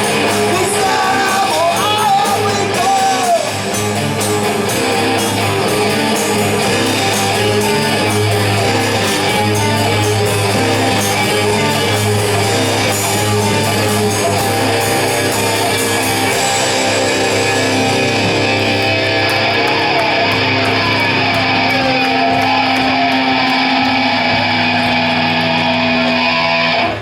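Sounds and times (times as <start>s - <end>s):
distorted electric guitar: 0.0s - 27.0s
drums: 0.0s - 27.0s.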